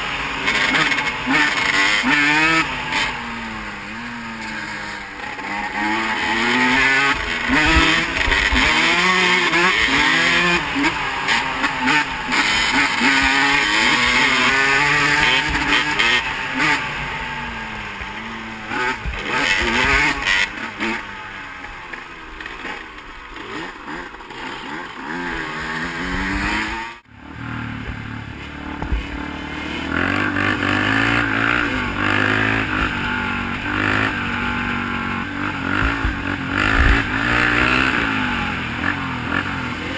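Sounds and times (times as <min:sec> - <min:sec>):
off-road engine revving: 0:00.0 - 0:39.9.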